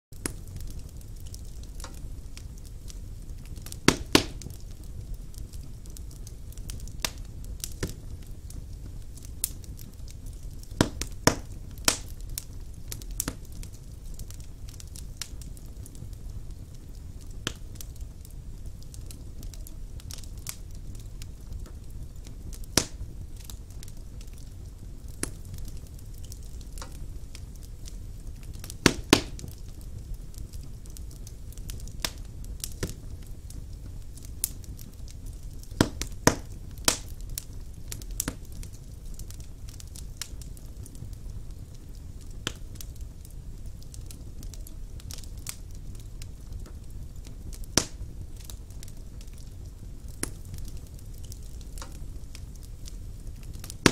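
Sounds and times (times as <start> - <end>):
fire flames rumbling: 0.1 - 53.9
wood crackling and popping: 0.1 - 53.9.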